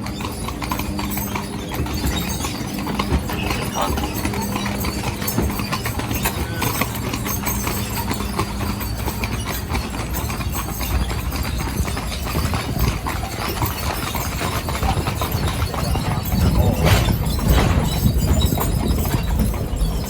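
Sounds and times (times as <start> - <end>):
coach rattling: 0.0 - 20.0
horse hooves clip-clopping: 0.0 - 20.0.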